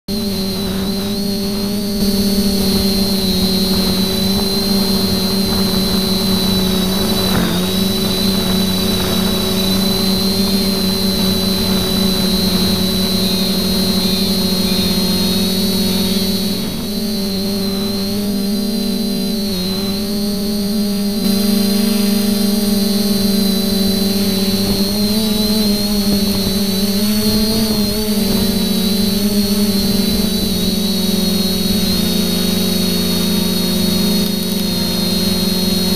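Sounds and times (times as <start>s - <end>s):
drone propellers buzzing: 0.1s - 35.9s.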